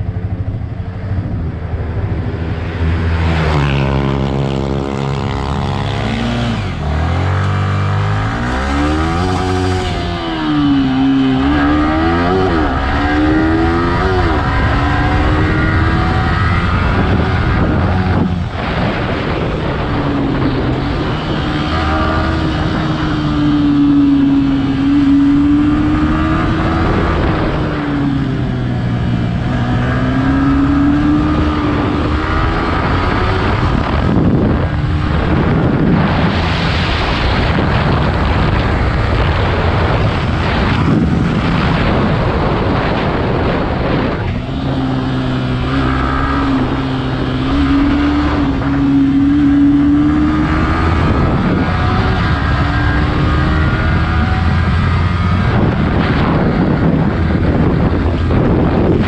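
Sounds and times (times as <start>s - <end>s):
motorcycle engine revving: 0.0s - 59.0s
road noise: 0.0s - 59.0s
wind noise: 0.0s - 59.0s.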